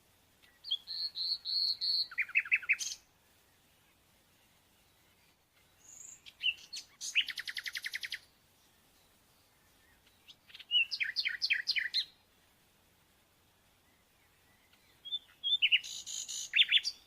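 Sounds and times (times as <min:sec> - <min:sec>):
songbird chirping and whistling: 0:00.4 - 0:12.2, 0:13.8 - 0:17.0.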